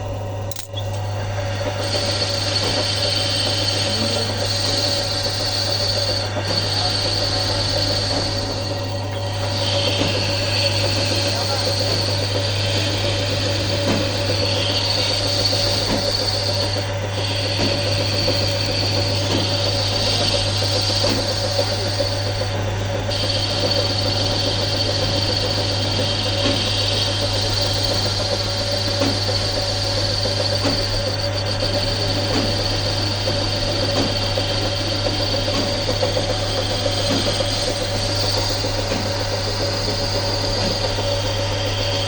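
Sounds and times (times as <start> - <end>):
workshop machine humming and whining: 0.0 - 42.0.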